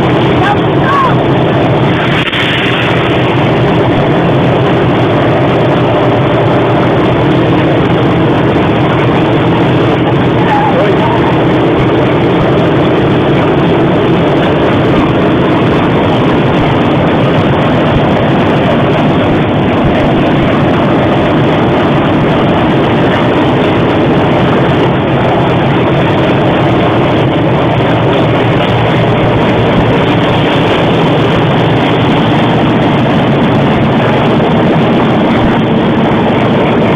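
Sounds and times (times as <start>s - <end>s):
train running: 0.0s - 36.9s.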